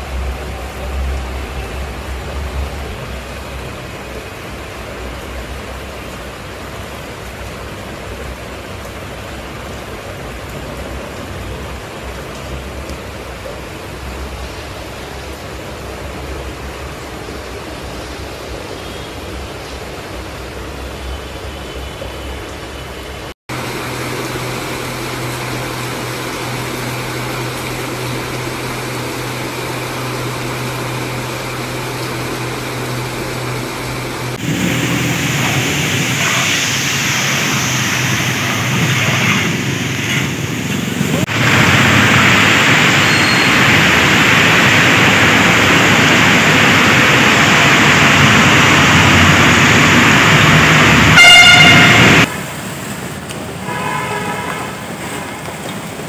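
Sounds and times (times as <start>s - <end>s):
rain hissing: 0.0s - 56.0s
road traffic: 0.0s - 56.0s.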